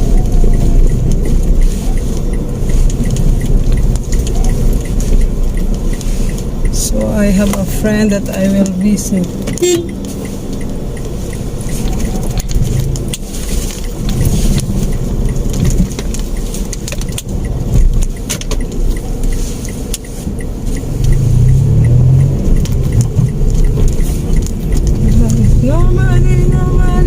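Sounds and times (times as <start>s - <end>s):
car engine running: 0.0s - 27.0s
road rumble: 0.0s - 27.0s.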